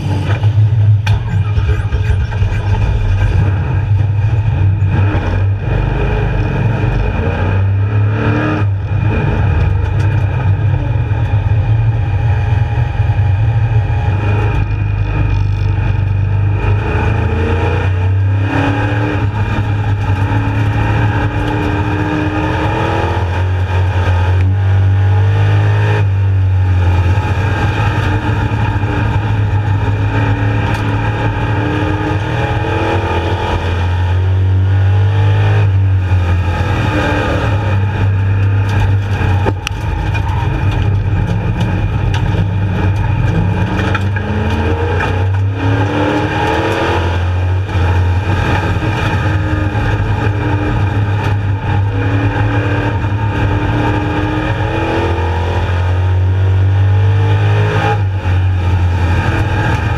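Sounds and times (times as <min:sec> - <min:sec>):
race car engine drone: 0:00.0 - 0:59.9.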